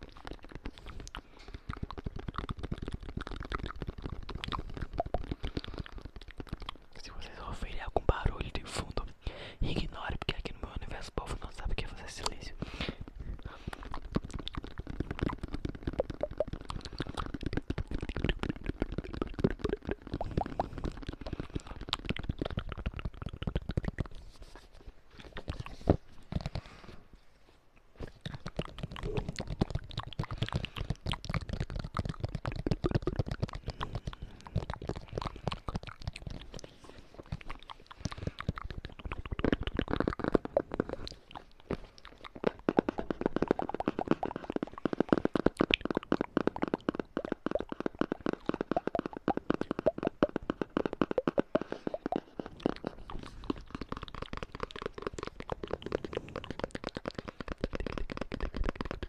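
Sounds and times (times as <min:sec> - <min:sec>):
rapid clicks and taps: 0:00.0 - 0:09.2, 0:09.8 - 0:26.8, 0:28.2 - 0:59.0
mouth sounds: 0:00.0 - 0:27.1, 0:28.0 - 0:59.0.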